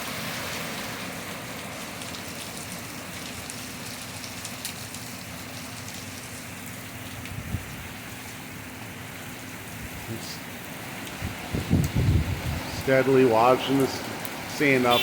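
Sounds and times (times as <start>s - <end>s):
heavy rain splashing: 0.0s - 15.0s.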